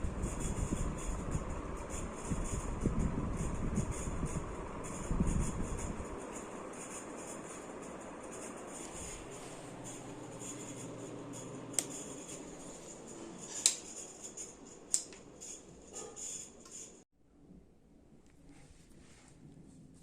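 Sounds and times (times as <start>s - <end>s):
ceiling fan whirring: 0.0s - 20.0s.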